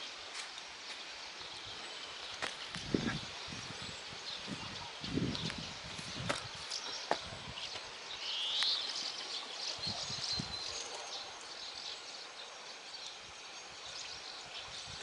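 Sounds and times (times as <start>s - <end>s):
small birds chirping and singing: 0.0s - 15.0s
steady outdoor hiss: 0.0s - 15.0s.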